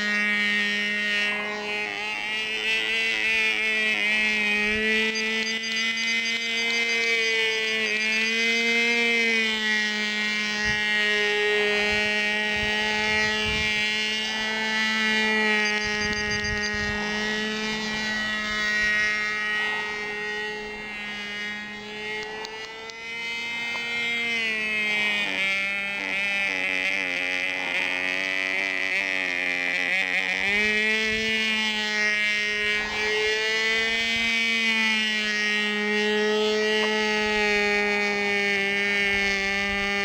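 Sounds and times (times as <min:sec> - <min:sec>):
model airplane engine buzzing: 0:00.0 - 0:40.0.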